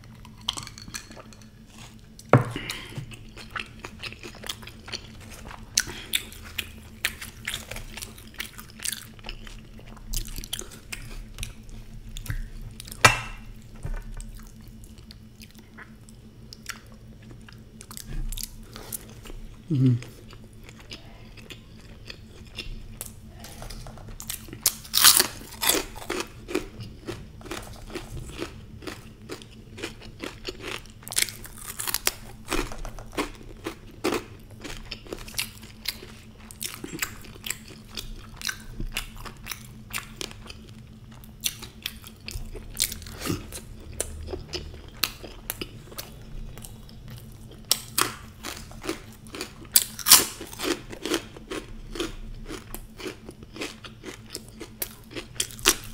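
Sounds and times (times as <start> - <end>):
chewing and crunching crisp food: 0.0 - 55.9.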